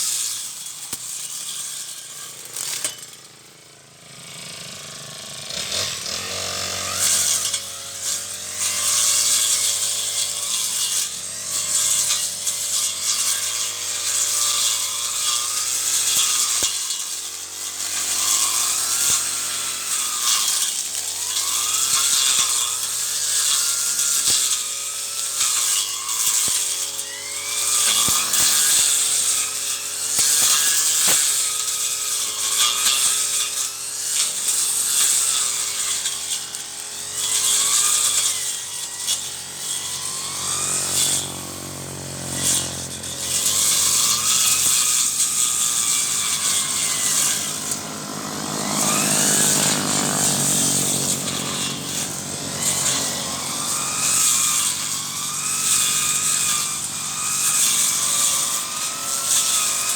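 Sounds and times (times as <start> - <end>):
brush cutter engine: 0.0 - 59.9.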